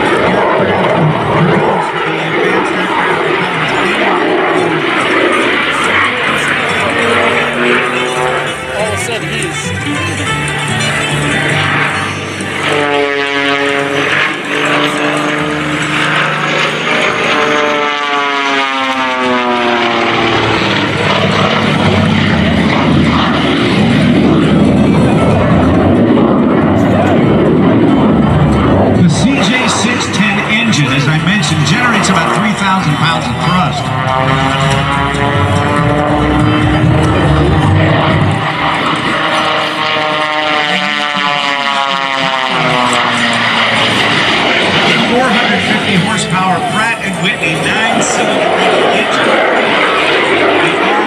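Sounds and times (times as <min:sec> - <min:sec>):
biplane engine flying past: 0:00.0 - 0:51.0.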